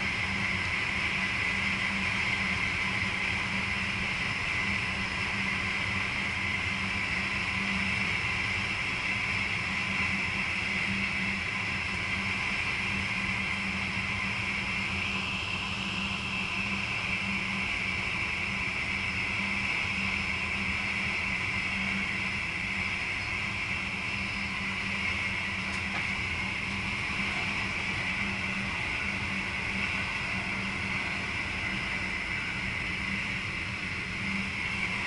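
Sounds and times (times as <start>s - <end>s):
train cab low hum: 0.0s - 35.0s.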